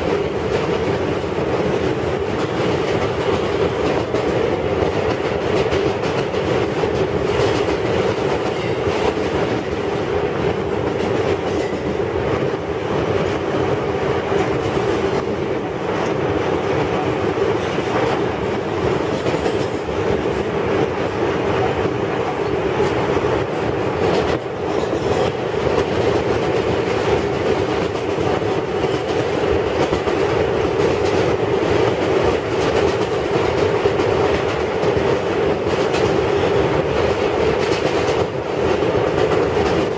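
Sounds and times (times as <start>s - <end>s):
subway car rumbling hum: 0.0s - 39.9s.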